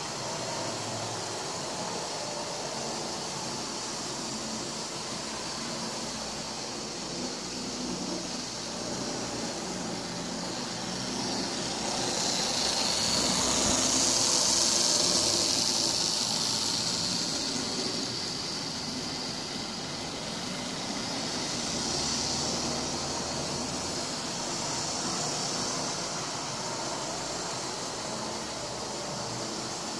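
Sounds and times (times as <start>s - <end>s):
model train motor whirring: 0.0s - 29.9s
model train wheels on rails: 0.0s - 29.9s.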